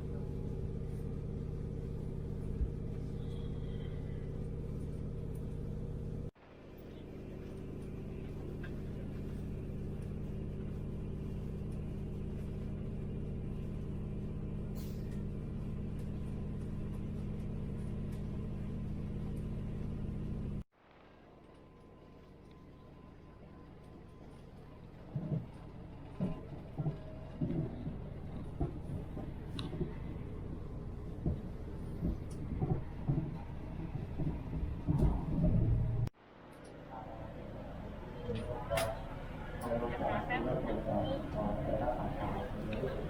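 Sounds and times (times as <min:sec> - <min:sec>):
passenger train rumbling: 0:00.0 - 0:20.6, 0:21.9 - 0:43.0.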